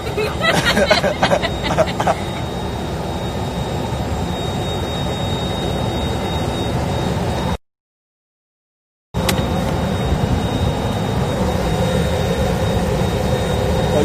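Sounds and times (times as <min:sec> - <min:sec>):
high-pitched engine whine: 0:00.0 - 0:07.6, 0:09.2 - 0:14.0
jet engine rumble: 0:00.0 - 0:07.6, 0:09.2 - 0:14.0.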